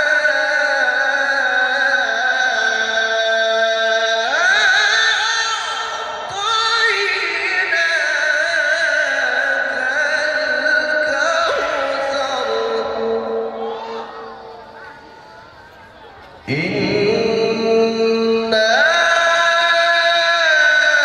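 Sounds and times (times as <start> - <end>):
man reciting melodically into microphone: 0.0 - 14.9, 16.4 - 21.0.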